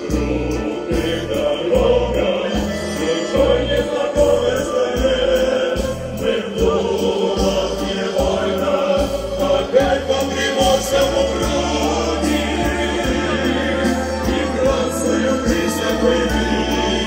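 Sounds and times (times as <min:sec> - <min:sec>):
choir singing through microphones: 0:00.0 - 0:17.0.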